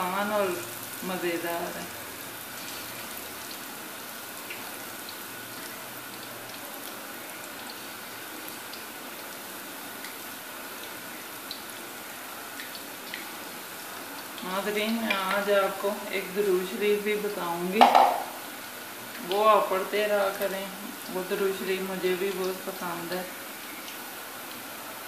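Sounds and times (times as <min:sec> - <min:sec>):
deep-frying sizzle with crackles: 0:00.0 - 0:25.0.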